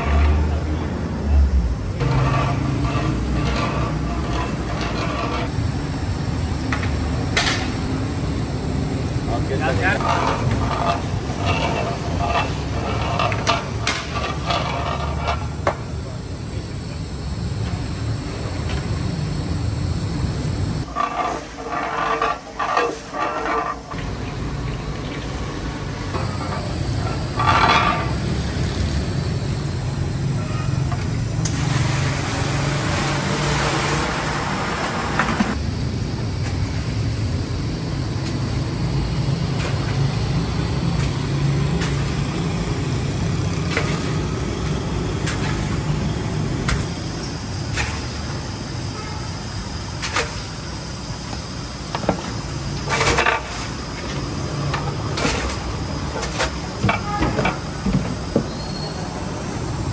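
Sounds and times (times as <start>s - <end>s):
gas burner rumbling: 0.0s - 59.9s.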